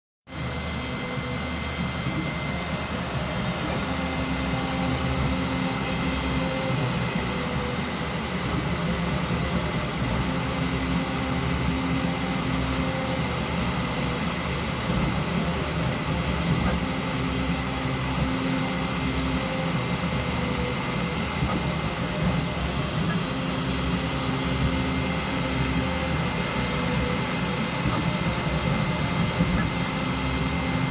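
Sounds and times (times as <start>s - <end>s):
fans humming: 0.3s - 30.9s
stepper motors whining: 0.3s - 30.9s.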